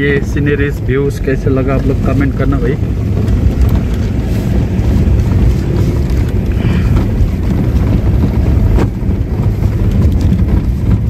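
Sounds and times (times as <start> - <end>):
car engine and tyres rumbling: 0.0 - 11.0
wind buffeting microphone: 0.0 - 11.0.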